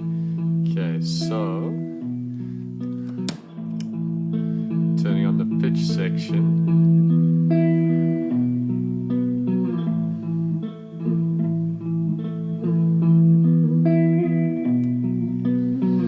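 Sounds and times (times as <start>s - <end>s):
guitar through vibrato pedal: 0.0s - 16.0s.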